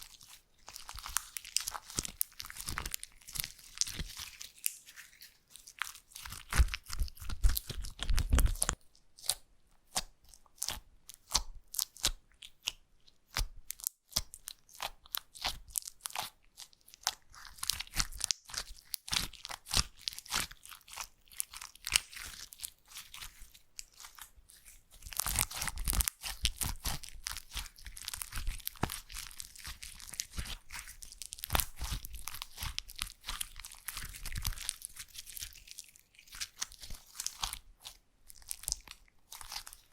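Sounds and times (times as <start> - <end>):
slime squeezed crackling and popping: 0.0 - 39.9.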